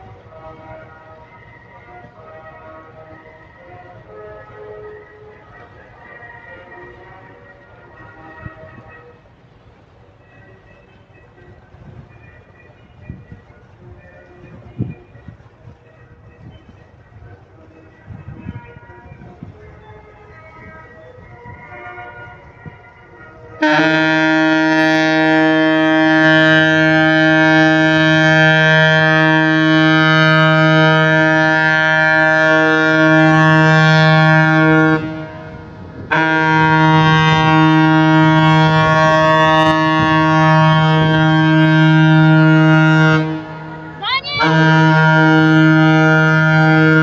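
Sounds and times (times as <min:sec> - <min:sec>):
ship horn blasts: 0:00.0 - 0:12.1, 0:18.0 - 0:47.0.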